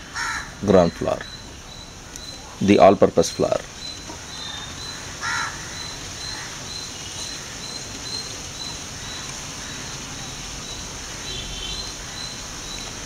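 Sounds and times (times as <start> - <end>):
loud bird call: 0.0 - 2.8, 3.4 - 12.9
steady high hiss: 0.0 - 13.0.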